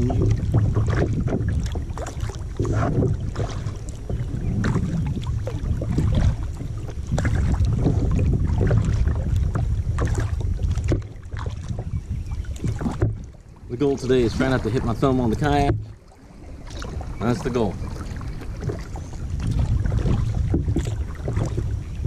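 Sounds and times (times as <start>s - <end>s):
paddle splashing in water: 0.0s - 22.0s
wind buffeting microphone: 0.0s - 22.0s.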